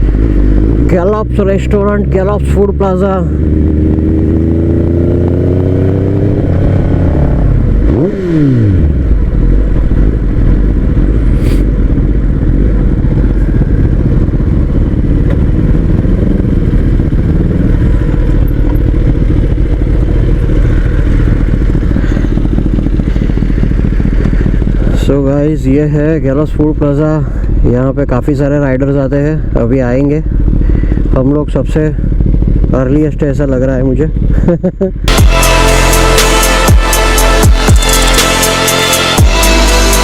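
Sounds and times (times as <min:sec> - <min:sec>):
motorcycle engine revving and idling: 0:00.0 - 0:40.0.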